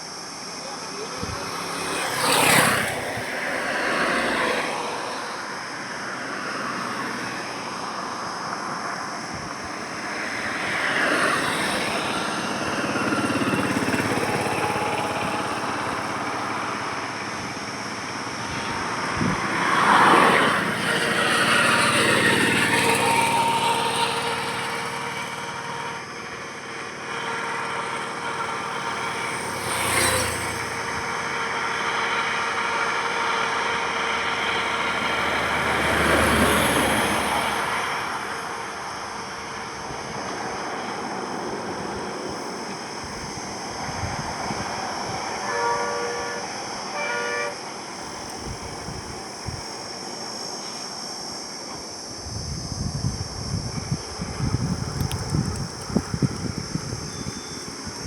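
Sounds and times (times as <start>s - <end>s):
road traffic: 0.0s - 58.0s
vehicles passing: 0.0s - 58.0s.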